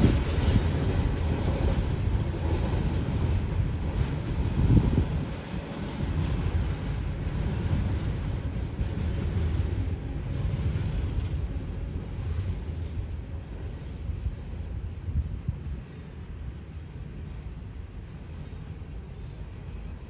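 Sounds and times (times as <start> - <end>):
freight train rolling on rails: 0.0 - 20.0.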